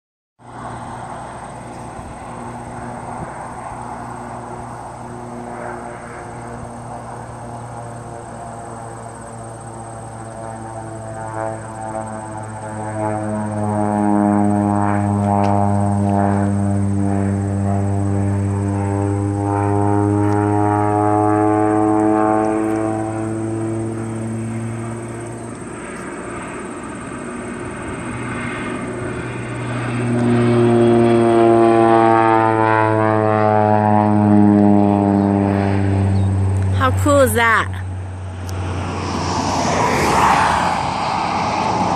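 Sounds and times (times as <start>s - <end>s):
propeller airplane engine droning: 0.4s - 41.9s.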